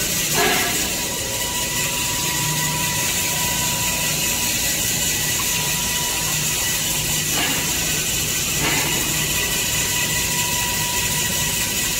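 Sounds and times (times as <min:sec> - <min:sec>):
high machine whine: 0:00.0 - 0:11.9
machine mechanical hum: 0:00.0 - 0:11.9.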